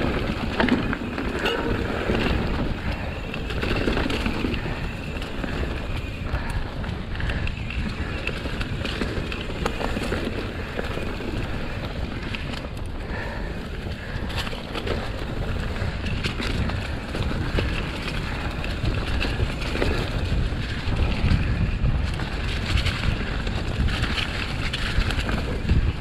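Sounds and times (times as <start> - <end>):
tyres rolling through leaves: 0.0 - 21.6
bike rattling and knocking: 0.0 - 26.0
wind buffeting microphone: 0.0 - 26.0.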